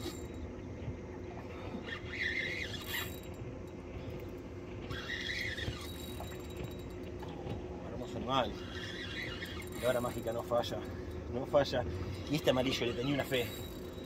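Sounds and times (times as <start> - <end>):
fishing reel drag squealing: 0.0 - 0.4, 1.5 - 3.4, 4.8 - 14.0.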